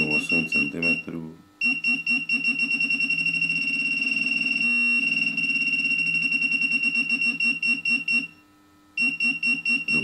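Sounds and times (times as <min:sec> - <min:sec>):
pinpointer electronic tone pulsing: 0:00.0 - 0:08.4, 0:09.0 - 0:10.0.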